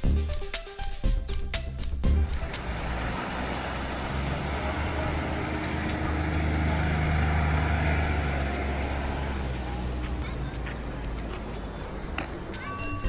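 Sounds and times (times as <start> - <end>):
outdoor noise: 0.0 - 13.0
vehicle engine running: 1.2 - 13.0.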